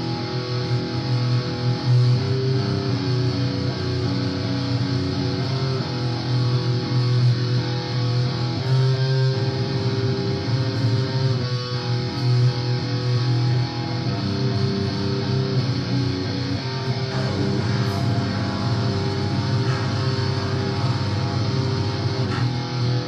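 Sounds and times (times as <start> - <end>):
doom guitar and bass music: 0.0 - 23.0.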